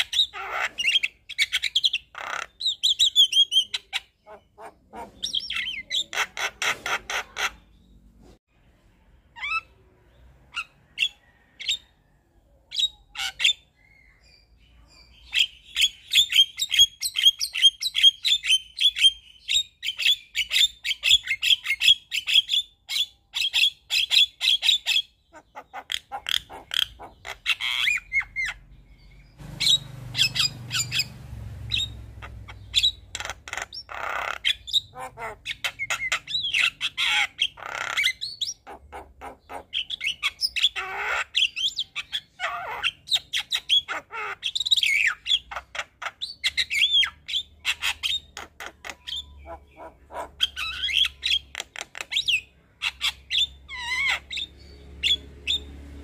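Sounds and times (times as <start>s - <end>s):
bird singing and chattering: 0.0s - 8.1s, 9.4s - 11.8s, 12.5s - 55.8s.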